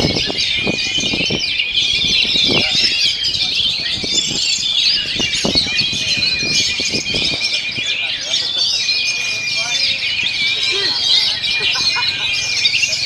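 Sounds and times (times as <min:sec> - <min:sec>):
bird singing varied high notes: 0:00.0 - 0:13.0.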